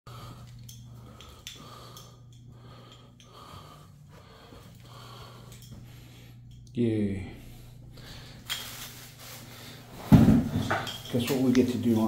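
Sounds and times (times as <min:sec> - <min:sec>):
person breathing: 0:00.1 - 0:10.1
steady low hum: 0:00.1 - 0:12.0.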